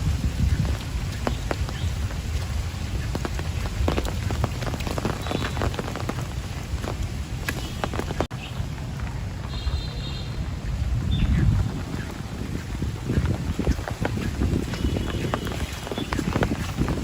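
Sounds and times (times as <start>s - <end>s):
raindrops striking a surface: 0.0s - 17.0s.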